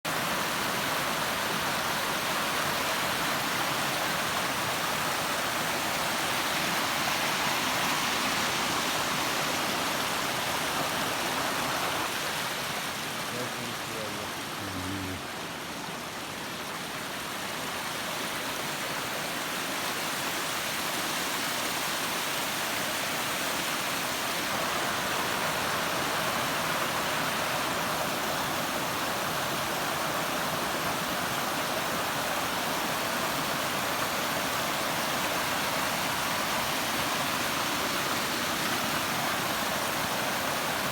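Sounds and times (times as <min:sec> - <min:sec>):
rushing water of stream: 0:00.0 - 0:40.9.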